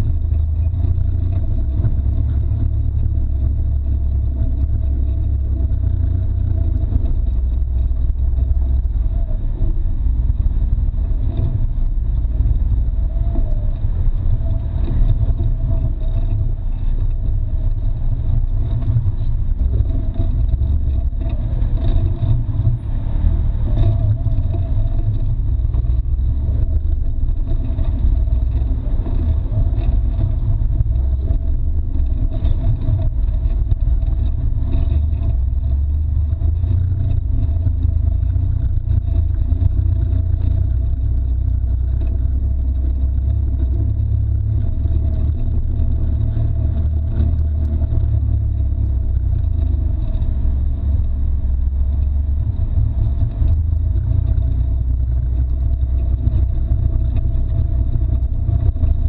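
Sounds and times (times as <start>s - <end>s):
heavy low rumble: 0.0s - 59.0s
off-road vehicle engine running: 0.0s - 59.0s.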